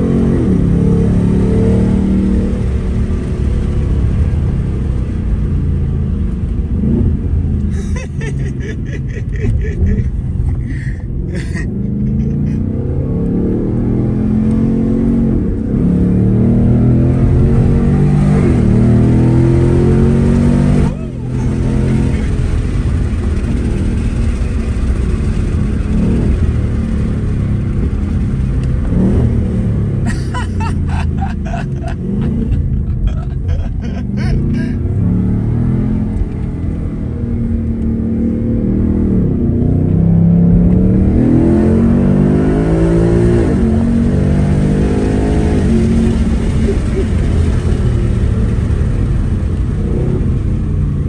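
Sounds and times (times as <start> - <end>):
car engine rumbling: 0.0 - 51.0.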